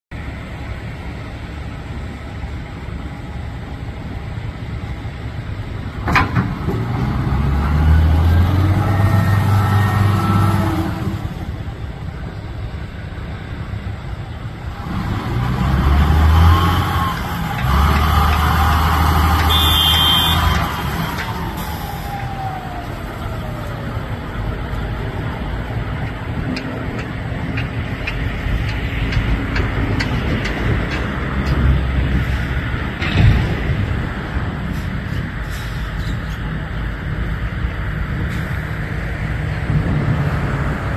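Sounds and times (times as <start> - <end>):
vehicle engine rumble: 0.1 - 40.9.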